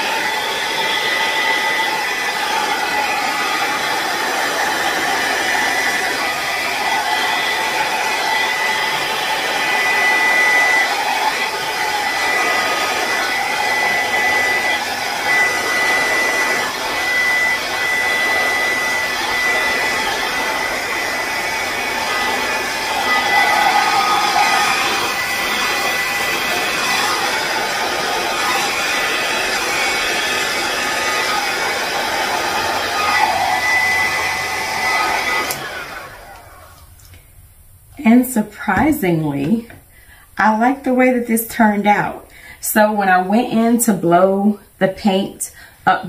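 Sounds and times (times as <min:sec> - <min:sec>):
hair dryer blowing air: 0:00.0 - 0:37.3, 0:38.0 - 0:44.0.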